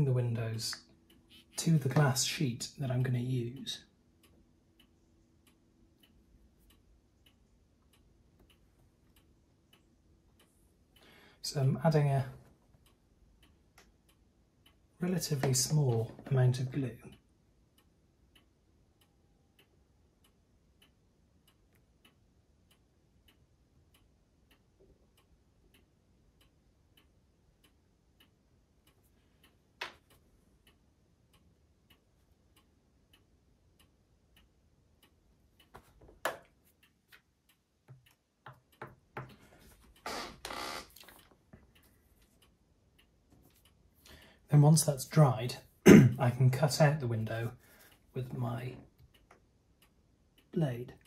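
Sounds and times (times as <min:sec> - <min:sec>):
clock ticking: 0:00.0 - 0:51.0.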